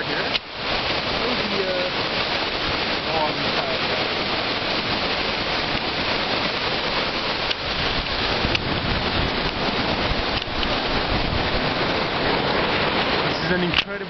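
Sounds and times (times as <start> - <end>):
rushing floodwater: 0.0 - 14.0.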